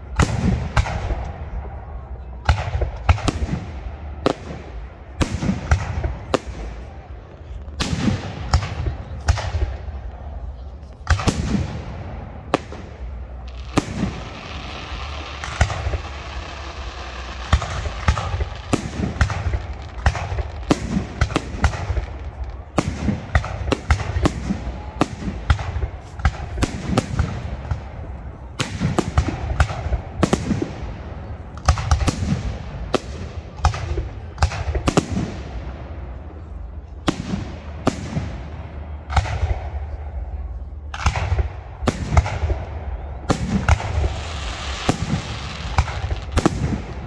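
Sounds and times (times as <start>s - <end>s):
fireworks crackling: 2.5s - 47.0s.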